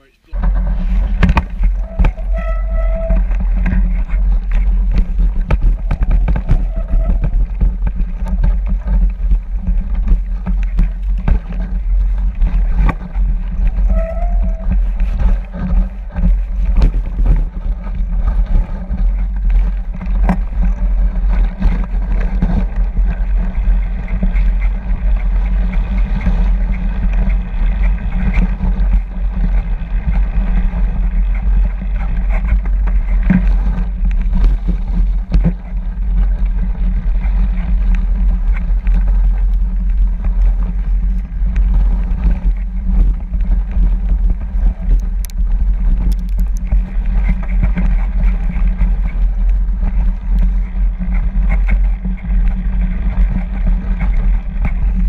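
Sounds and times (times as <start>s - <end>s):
bike tyres on snow: 0.0s - 55.0s
wind on microphone: 0.3s - 55.0s
bike knocks and rattles: 0.4s - 55.0s.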